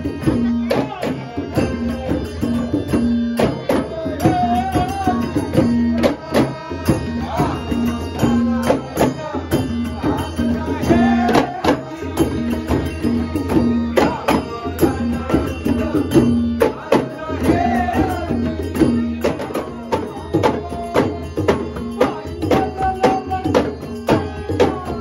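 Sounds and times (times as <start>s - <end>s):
clay-pot drums beating: 0.0s - 25.0s
harmonium: 0.0s - 25.0s
man singing: 0.0s - 25.0s.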